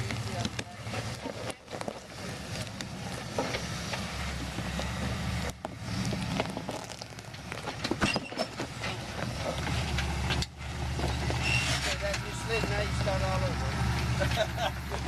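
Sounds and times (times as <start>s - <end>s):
gravel crackling under tyres: 0.0s - 15.0s.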